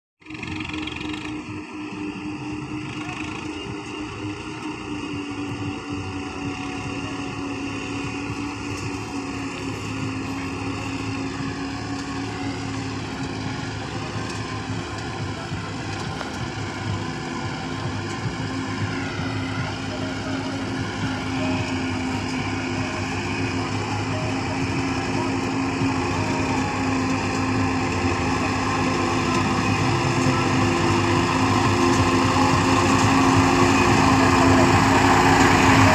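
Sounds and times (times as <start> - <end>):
tractor diesel engine droning: 0.2 - 35.9.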